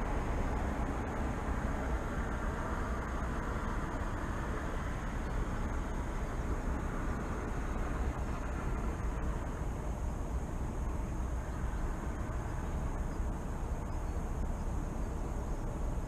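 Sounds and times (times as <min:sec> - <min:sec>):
distant city traffic rumble: 0:00.0 - 0:16.0.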